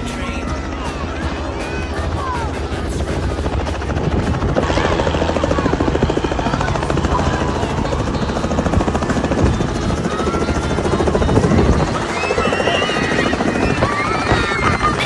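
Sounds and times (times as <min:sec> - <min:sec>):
helicopter rotor chopping: 0:00.0 - 0:15.0.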